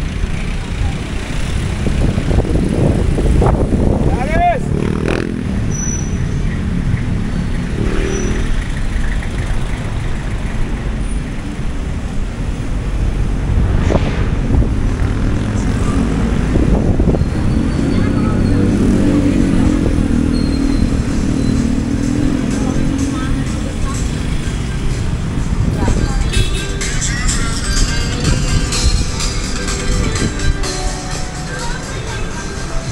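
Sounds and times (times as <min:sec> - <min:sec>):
motorcycle engines passing: 0:00.0 - 0:32.9
steady engine hum: 0:06.4 - 0:32.9.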